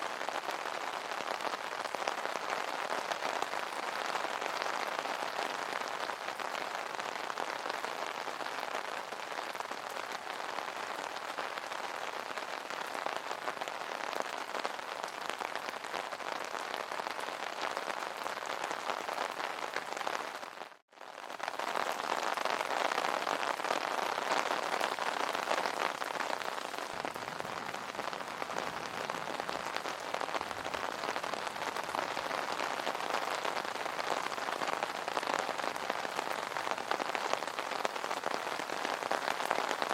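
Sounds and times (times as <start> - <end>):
rain pattering on an umbrella: 0.0 - 39.9.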